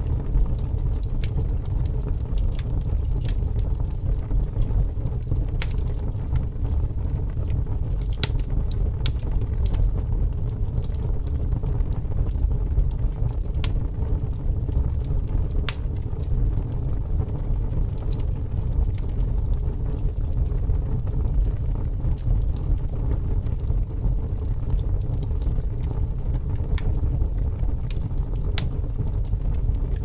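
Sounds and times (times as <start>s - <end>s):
fire crackling and popping: 0.0s - 30.0s
fire roaring: 0.0s - 30.0s.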